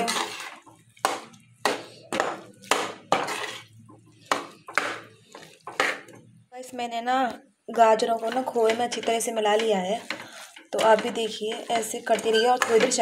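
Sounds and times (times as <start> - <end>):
metal spatula scraping pan: 0.0 - 6.2, 7.9 - 13.0.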